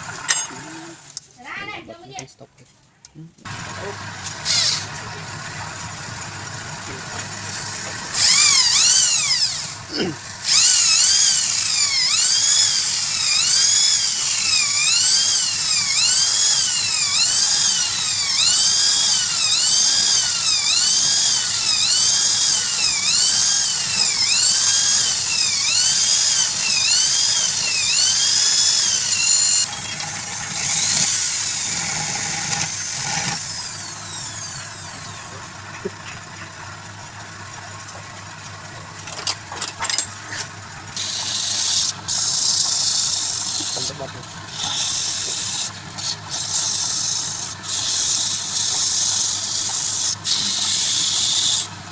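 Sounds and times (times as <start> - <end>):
power tool motor whining: 3.4 - 35.6, 41.0 - 51.8.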